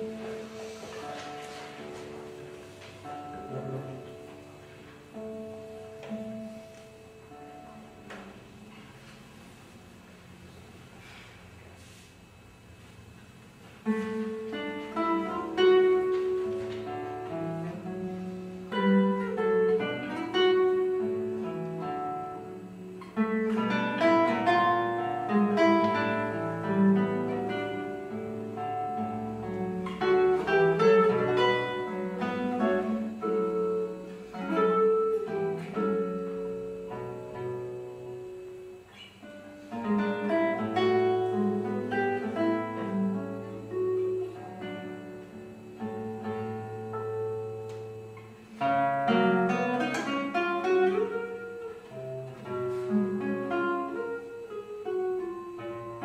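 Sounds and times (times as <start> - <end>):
classical guitar: 0.0 - 56.0.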